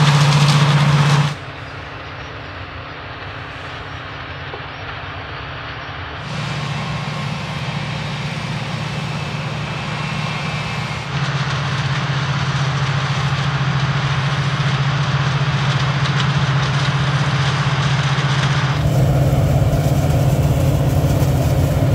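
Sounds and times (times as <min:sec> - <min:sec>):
harvester engine hum: 0:00.0 - 0:21.9
harvester mechanical rush: 0:00.0 - 0:21.9.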